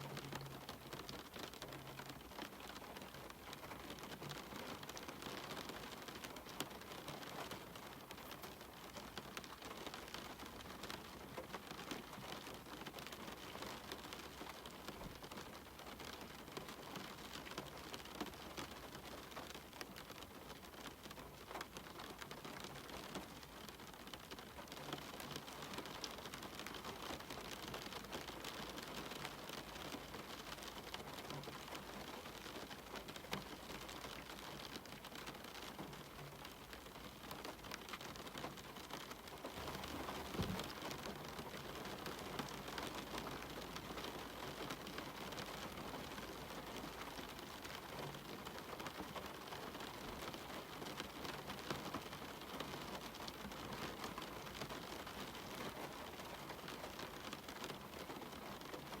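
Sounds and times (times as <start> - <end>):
rain pattering on hard surfaces: 0.0 - 59.0.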